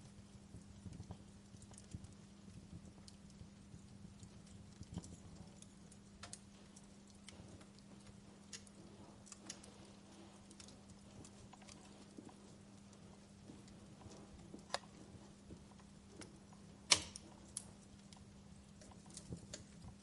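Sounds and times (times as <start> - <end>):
faint low hum: 0.0 - 20.0
wood fire crackling: 0.0 - 20.0.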